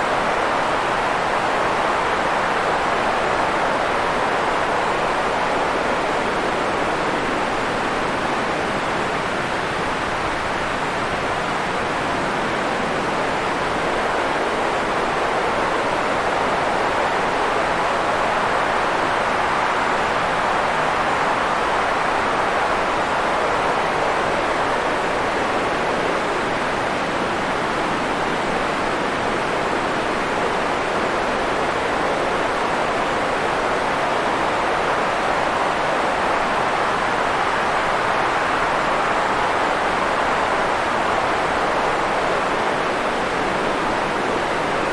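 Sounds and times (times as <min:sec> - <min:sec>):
white noise hiss: 0:00.0 - 0:44.9.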